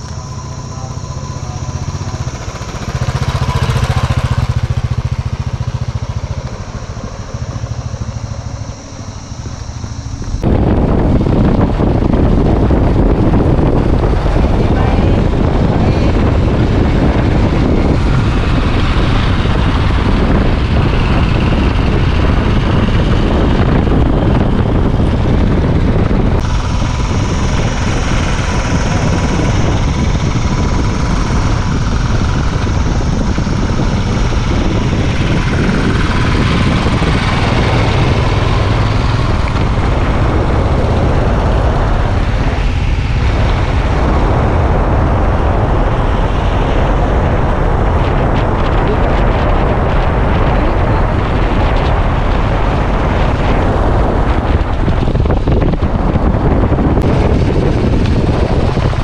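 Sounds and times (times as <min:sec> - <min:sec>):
road noise from vehicle: 0:00.0 - 0:59.0
wind buffeting: 0:00.0 - 0:59.0.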